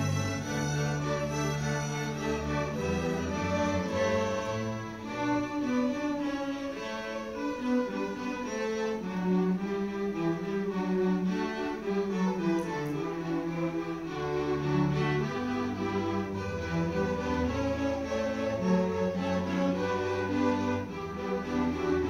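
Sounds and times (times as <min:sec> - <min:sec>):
string orchestra playing: 0:00.0 - 0:22.0.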